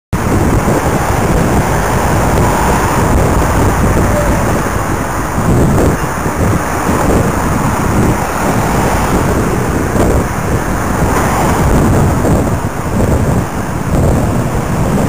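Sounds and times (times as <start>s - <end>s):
traffic and road noise: 0.1s - 15.0s
wind buffeting microphone: 0.1s - 15.0s.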